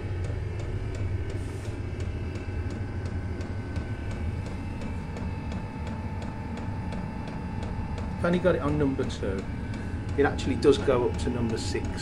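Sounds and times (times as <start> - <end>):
air heater rumble and fan whine: 0.0 - 12.0
fuel pump ticking: 0.0 - 12.0.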